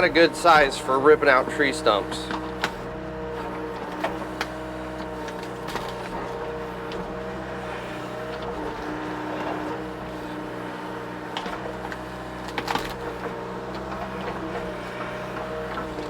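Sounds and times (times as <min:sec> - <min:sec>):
diesel engine running: 0:00.0 - 0:16.0
hydraulic whine: 0:00.0 - 0:16.0.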